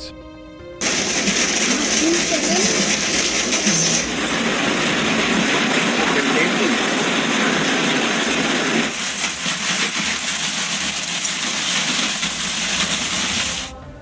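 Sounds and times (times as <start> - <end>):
heavy hail clattering: 0.8 - 13.7.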